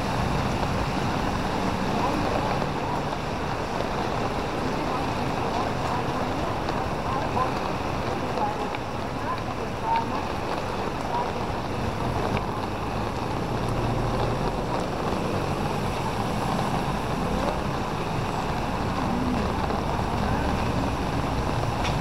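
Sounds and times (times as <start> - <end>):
traffic hum: 0.0 - 22.0
tyre noise on wet road: 0.0 - 22.0.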